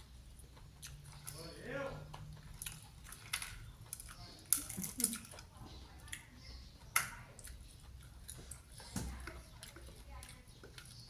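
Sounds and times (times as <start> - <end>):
chewing crispy fried food: 0.0 - 11.0.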